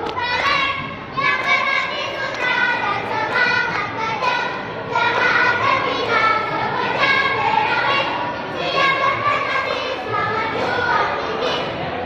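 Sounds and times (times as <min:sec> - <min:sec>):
girls singing and chanting: 0:00.0 - 0:12.0.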